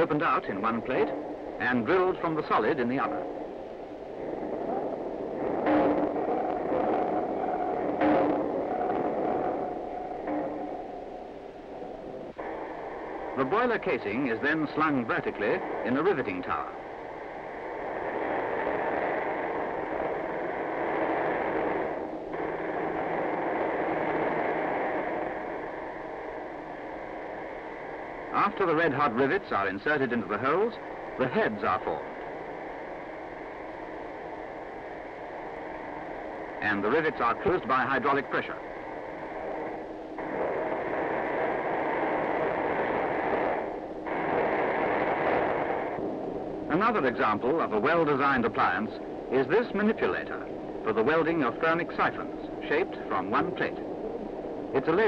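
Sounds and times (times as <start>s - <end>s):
steady rushing noise: 0.0s - 55.0s.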